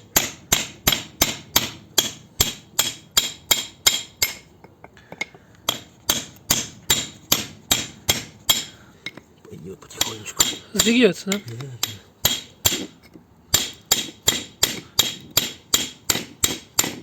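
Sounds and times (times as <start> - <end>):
hammer striking steel chisel: 0.1 - 4.5, 5.1 - 9.2, 9.9 - 17.0.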